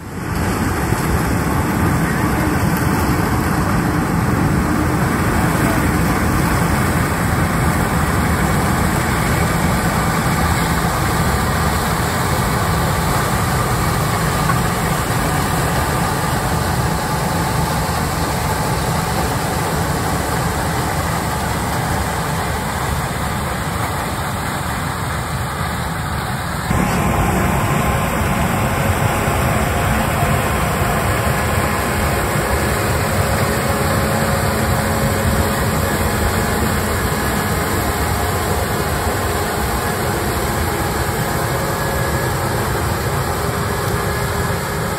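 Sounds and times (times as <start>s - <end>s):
harvesting machinery engine drone: 0.0s - 44.9s.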